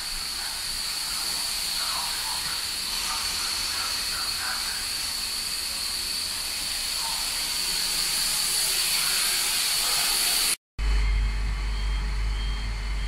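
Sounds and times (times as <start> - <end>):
train interior hiss: 0.0 - 10.6
high-pitched whine: 0.0 - 13.0.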